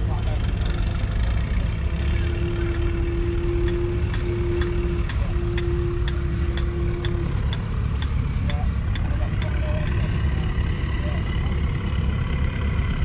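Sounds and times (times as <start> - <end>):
steady whine: 0.0 - 13.0
tractor diesel engine running: 0.0 - 13.0.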